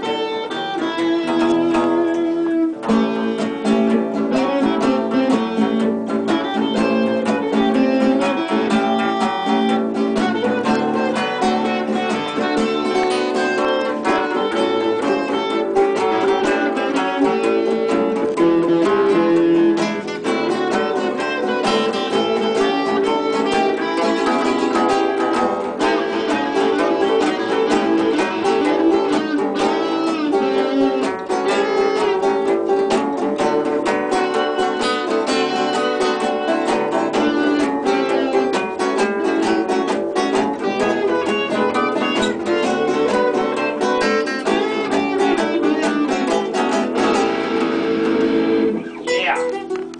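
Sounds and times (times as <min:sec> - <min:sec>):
several guitars playing: 0:00.0 - 0:49.9.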